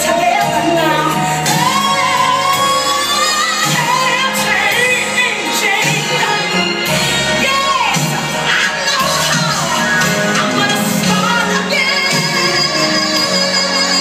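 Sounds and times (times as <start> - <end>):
pop song with lead singer: 0.0 - 14.0
steady bass line: 0.0 - 14.0.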